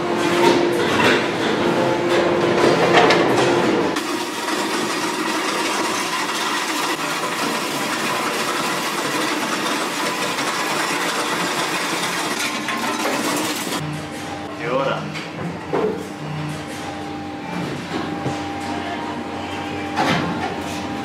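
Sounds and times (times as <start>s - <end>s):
factory machine noise: 0.0s - 21.0s.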